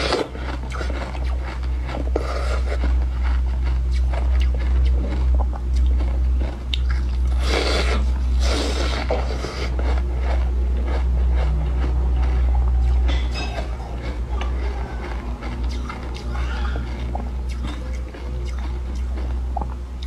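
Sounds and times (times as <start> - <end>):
steady low hum: 0.0 - 20.0
teeth crunching ice: 0.0 - 20.0.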